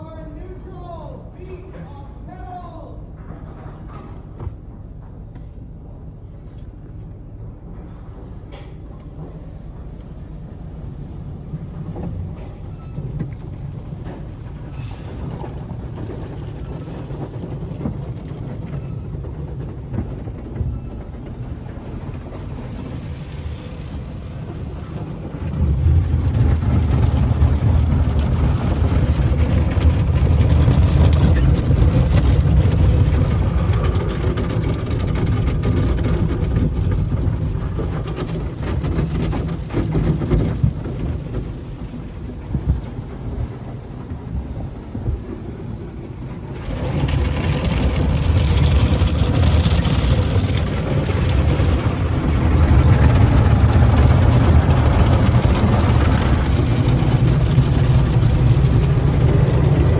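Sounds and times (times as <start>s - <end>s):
car wash machinery rumble: 0.0s - 59.9s.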